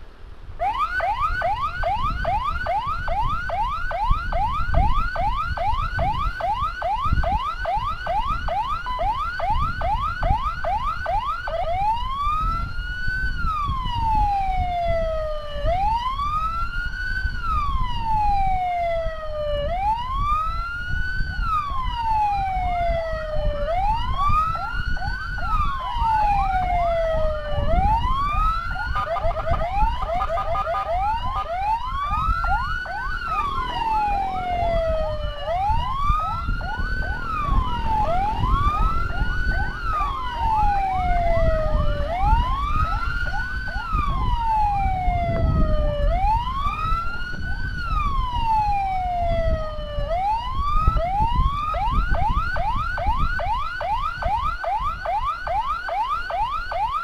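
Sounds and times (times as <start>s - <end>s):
low road and wind rumble: 0.0s - 57.0s
wailing emergency siren: 0.5s - 57.0s.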